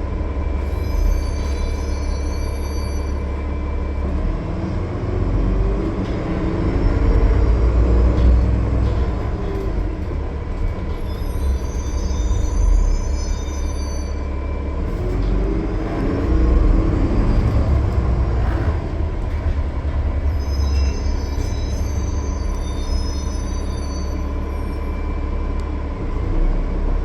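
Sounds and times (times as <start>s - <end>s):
bus diesel engine drone: 0.0s - 27.0s
road noise: 0.0s - 27.0s.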